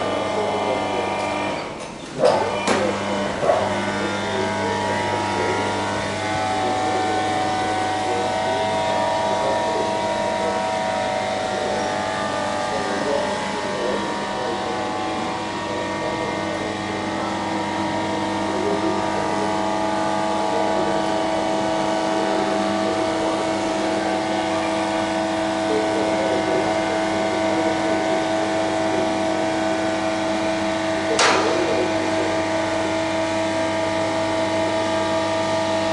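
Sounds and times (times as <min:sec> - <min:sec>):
hydraulic pump droning: 0:00.0 - 0:35.9.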